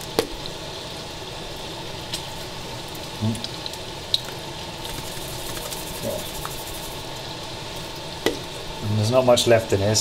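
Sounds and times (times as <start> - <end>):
steady kitchen hiss: 0.0 - 10.0.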